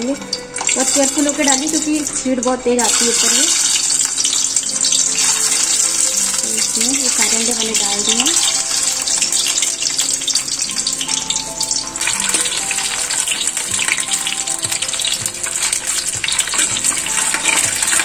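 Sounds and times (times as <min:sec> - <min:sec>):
eggs sizzling in hot oil: 0:00.0 - 0:18.0.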